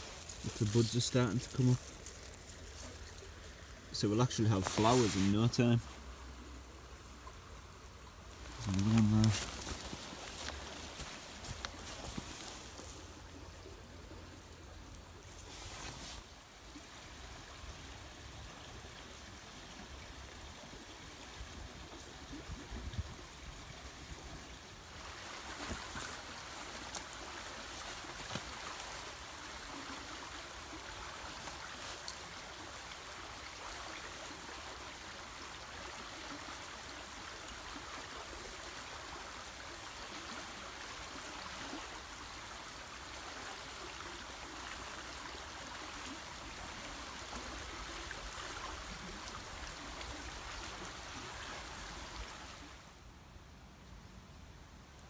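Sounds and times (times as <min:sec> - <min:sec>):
river water rushing: 0:00.0 - 0:21.2, 0:23.8 - 0:53.0.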